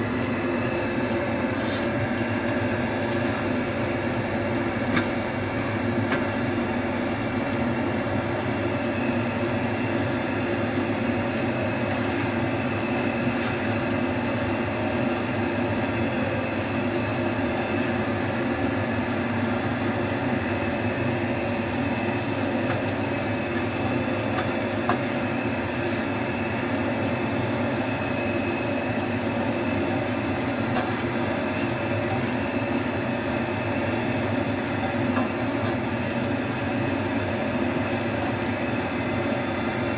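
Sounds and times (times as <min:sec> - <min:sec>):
onions frying in a pan: 0:00.0 - 0:39.9
steady machine whir: 0:00.0 - 0:39.9.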